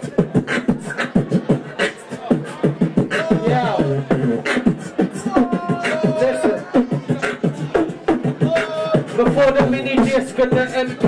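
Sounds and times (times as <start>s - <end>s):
person beatboxing: 0.0s - 11.0s.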